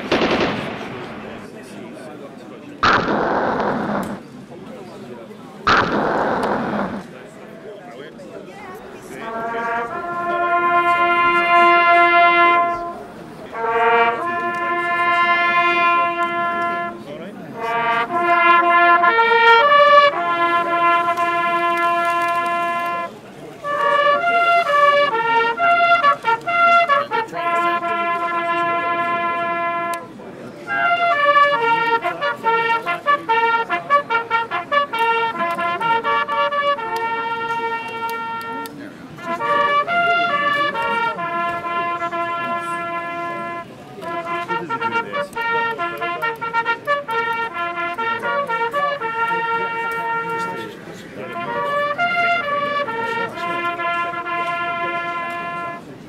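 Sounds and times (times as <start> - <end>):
trumpet-led brass melody: 0.0 - 1.4, 2.8 - 4.2, 5.7 - 7.1, 9.0 - 56.0
two-tone locomotive horn: 9.2 - 55.8.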